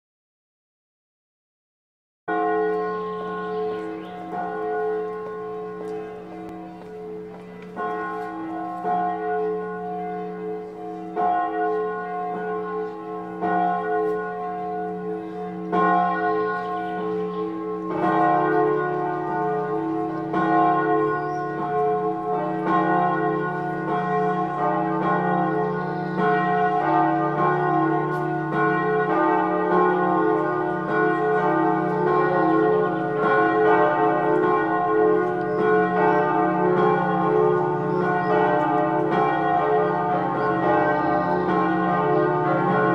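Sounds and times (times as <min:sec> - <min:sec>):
swinging church bells ringing: 0:02.3 - 0:42.9.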